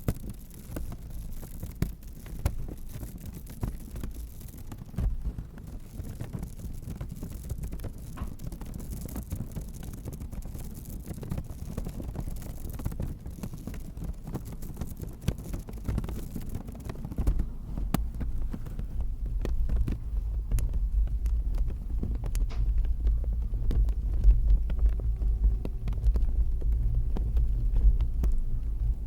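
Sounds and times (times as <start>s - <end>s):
rubbing with clicks and crackles: 0.0s - 29.0s.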